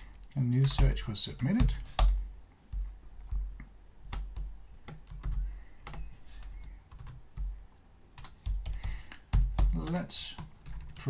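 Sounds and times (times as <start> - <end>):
keyboard typing: 0.6 - 3.5, 4.1 - 7.6, 8.2 - 11.0.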